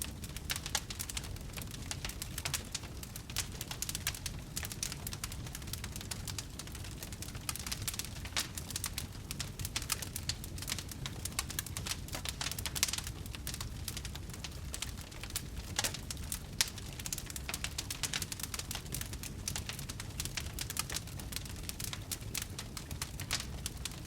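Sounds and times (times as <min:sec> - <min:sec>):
fire crackling and popping: 0:00.0 - 0:24.0
low fire rumble: 0:00.0 - 0:24.0.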